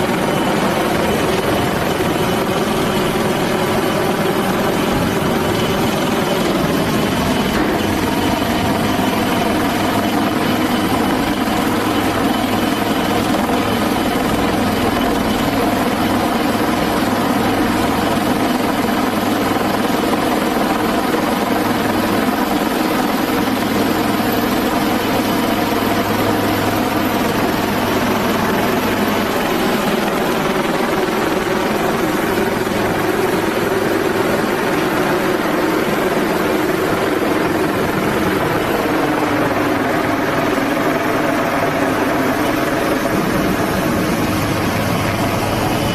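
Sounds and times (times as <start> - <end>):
helicopter rotor and engine noise: 0.0 - 45.9.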